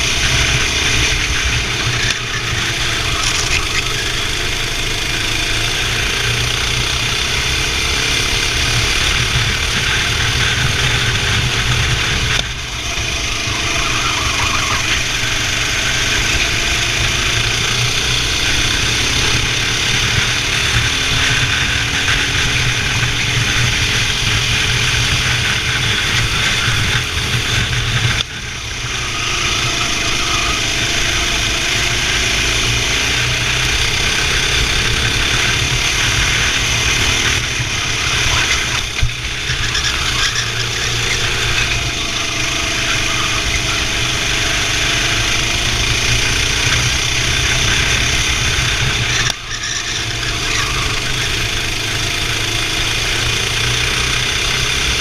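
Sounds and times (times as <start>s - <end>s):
racing kart engine running hard: 0.0s - 55.0s.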